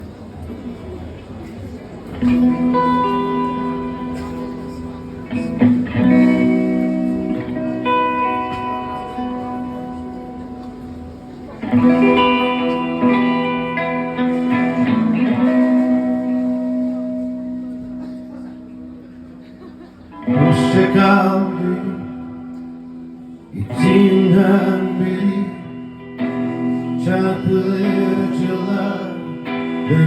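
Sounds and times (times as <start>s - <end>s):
guitar chords ringing: 2.2s - 30.0s.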